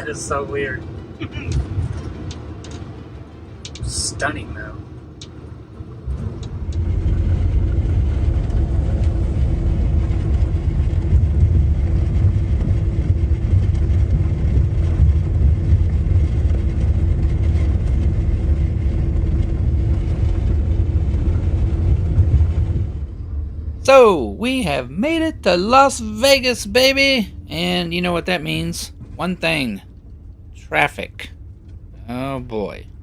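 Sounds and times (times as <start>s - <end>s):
road and engine rumble: 0.0s - 33.0s
steady hum: 0.0s - 33.0s.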